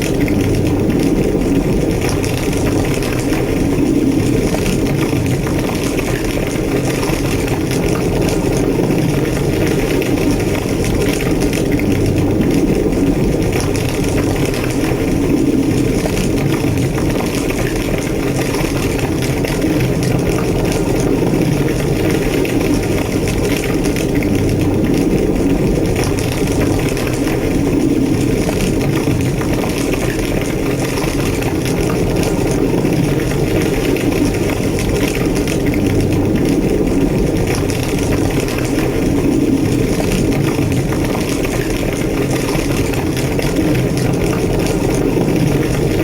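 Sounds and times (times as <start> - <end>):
large fire roaring and crackling: 0.0 - 46.0.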